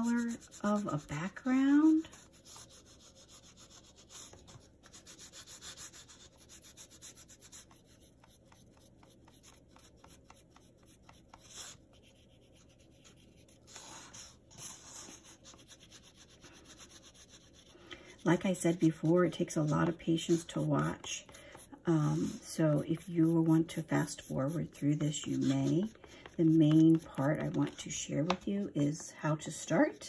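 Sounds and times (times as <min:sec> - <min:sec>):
oil pastel scratching on paper: 0:00.0 - 0:30.0.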